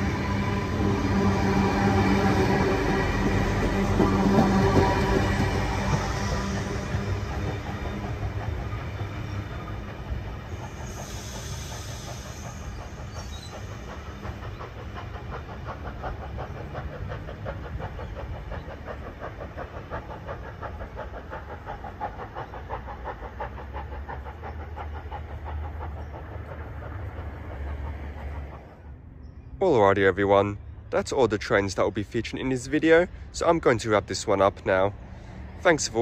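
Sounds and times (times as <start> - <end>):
passenger train running: 0.0 - 36.0.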